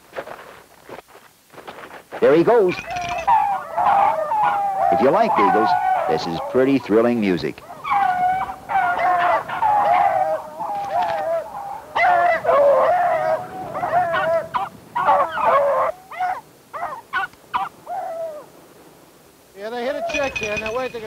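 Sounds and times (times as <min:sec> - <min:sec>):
hounds baying: 0:02.3 - 0:18.5, 0:19.8 - 0:21.0
dogs yelping: 0:02.5 - 0:18.5, 0:19.8 - 0:21.0.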